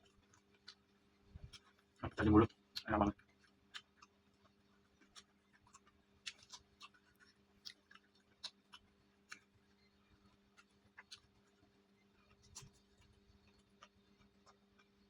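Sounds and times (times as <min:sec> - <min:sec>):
chewing with mouth clicks: 0:00.0 - 0:15.0.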